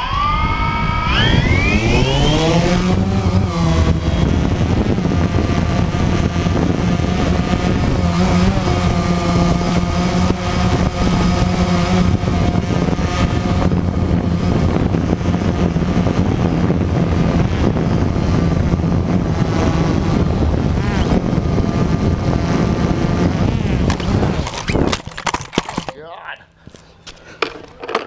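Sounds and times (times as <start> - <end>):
drone propellers buzzing: 0.0 - 25.9.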